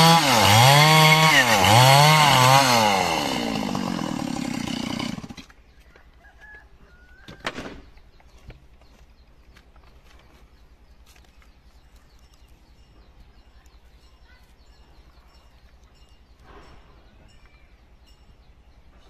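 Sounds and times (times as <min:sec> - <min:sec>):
birds chirping: 0:02.0 - 0:19.0.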